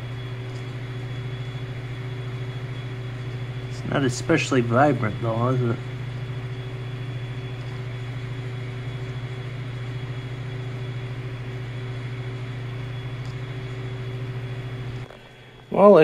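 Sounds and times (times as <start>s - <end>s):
projector fans whirring: 0.0s - 16.0s.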